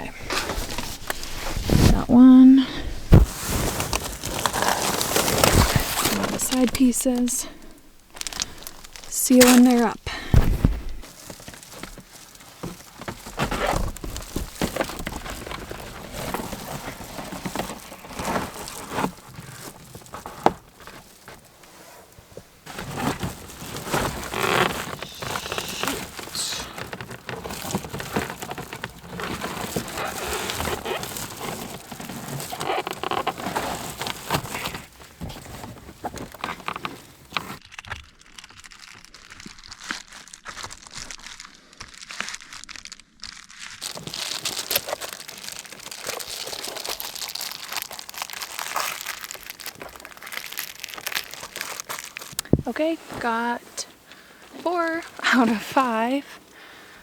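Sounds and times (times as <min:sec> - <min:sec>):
foil insulation crinkling: 0:00.0 - 0:57.0.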